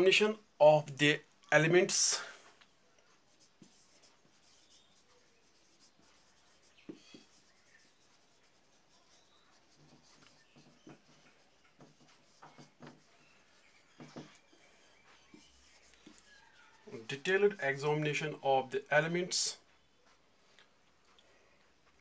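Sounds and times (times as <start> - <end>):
marker pen squeaking on whiteboard: 1.6 - 20.2.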